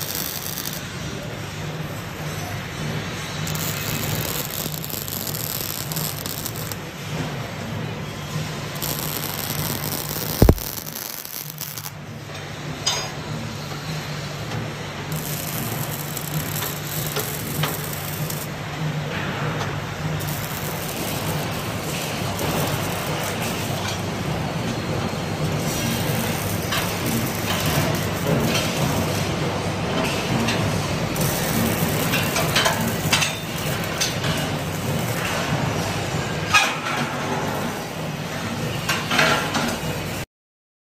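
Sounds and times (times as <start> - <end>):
low machinery hum: 0.0 - 36.5
welding arc sizzling and crackling: 0.0 - 40.2.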